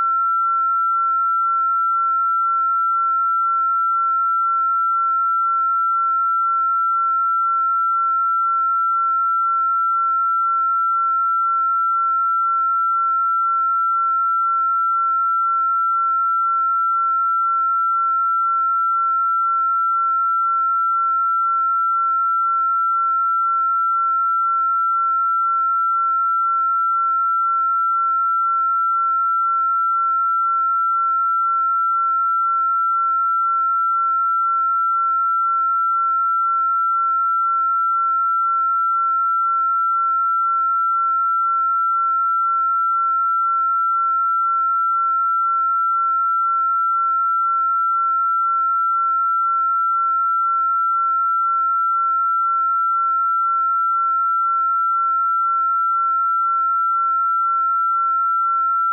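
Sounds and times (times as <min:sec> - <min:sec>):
steady high sine-wave tone: 0:00.0 - 0:58.9.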